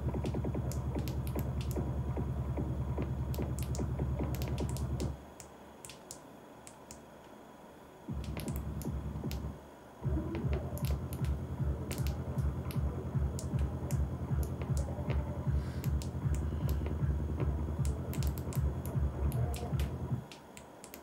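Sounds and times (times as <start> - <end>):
rhythmic music with strong bass: 0.0 - 5.2, 8.1 - 20.3
sharp clicks: 0.1 - 1.8, 3.0 - 7.0, 8.1 - 9.5, 10.3 - 17.0, 17.8 - 21.0.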